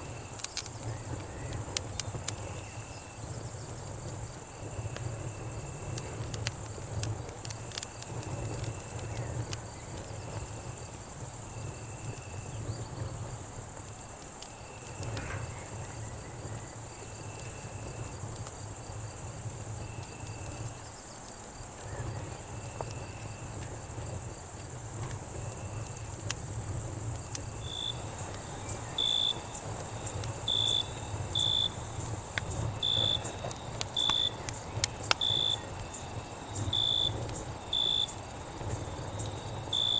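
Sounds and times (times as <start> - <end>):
campfire crackling: 0.0 - 19.8, 22.3 - 39.9
crickets and cicadas: 0.0 - 39.9.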